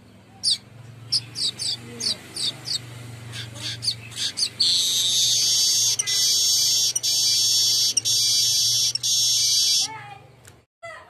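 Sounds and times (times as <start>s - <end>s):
weaver bird singing: 0.0s - 9.9s.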